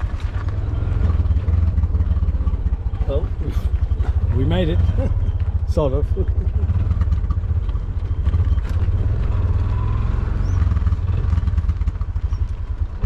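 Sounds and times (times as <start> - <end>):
small engine putter: 0.0 - 13.0.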